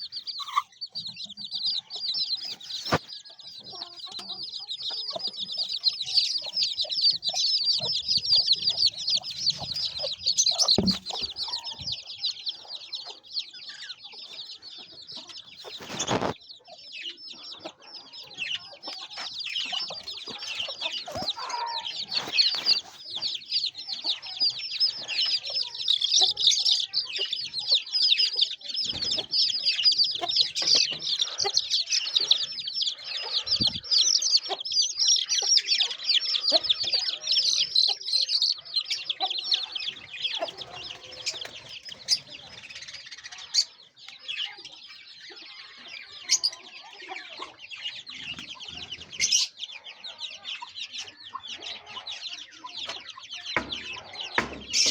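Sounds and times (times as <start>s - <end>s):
chicks peeping: 0.0s - 54.9s.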